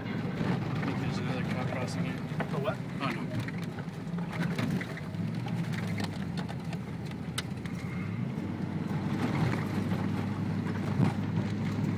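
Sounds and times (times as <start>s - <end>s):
engine humming: 0.0s - 11.9s.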